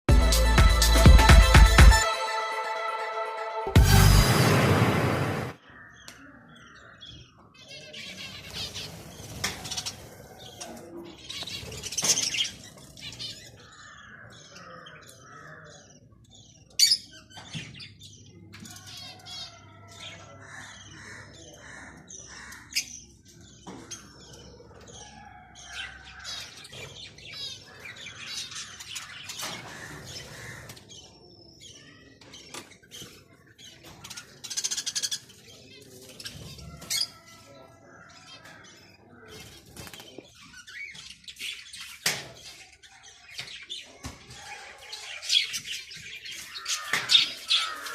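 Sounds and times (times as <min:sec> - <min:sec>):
budgies chirping: 0:05.6 - 0:47.9.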